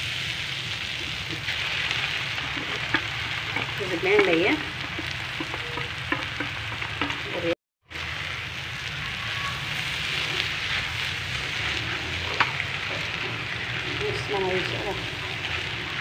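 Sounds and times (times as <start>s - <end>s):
noodles sizzling in a pan: 0.0s - 16.0s.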